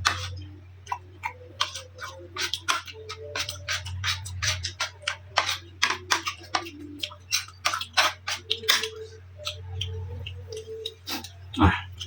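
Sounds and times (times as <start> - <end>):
steady low hum: 0.0 - 12.0
chewing clicks and smacks: 0.1 - 12.0.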